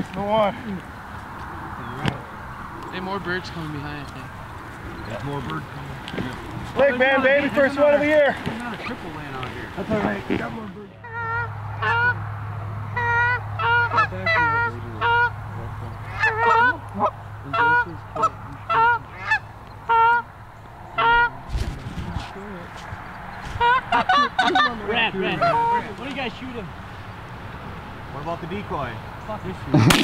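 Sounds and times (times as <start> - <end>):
steady low hum: 0.0 - 30.0
goose honking: 1.0 - 30.0.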